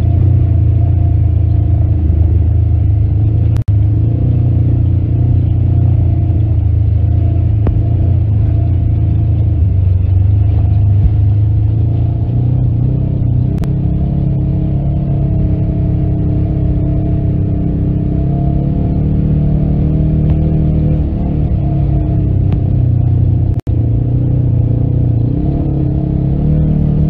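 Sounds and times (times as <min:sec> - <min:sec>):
off-road vehicle engine rumbling: 0:00.0 - 0:27.0.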